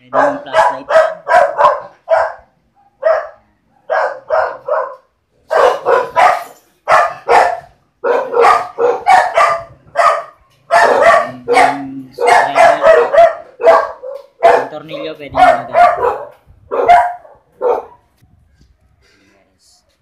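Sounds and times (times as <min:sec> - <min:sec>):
dog barking: 0:00.0 - 0:18.1.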